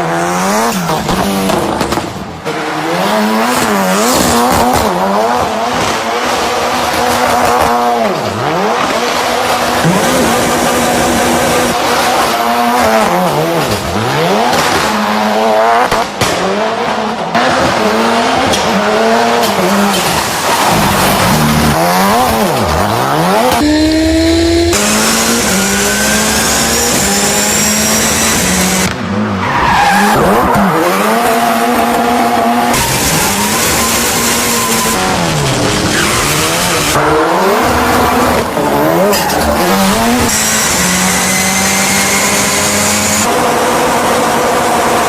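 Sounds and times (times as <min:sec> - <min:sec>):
car engines revving high: 0:00.0 - 0:45.0.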